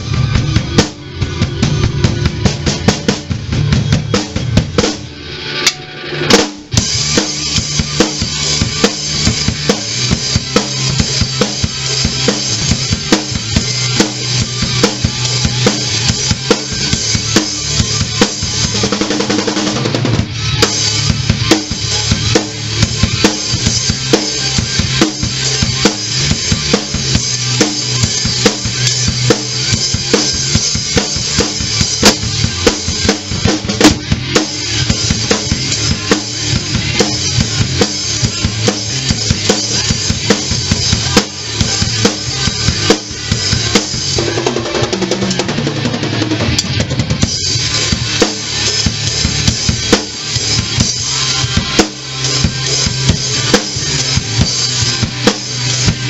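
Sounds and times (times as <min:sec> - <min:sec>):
drum kit played hard: 0:00.0 - 0:56.0
recorded hard rock song: 0:00.0 - 0:56.0.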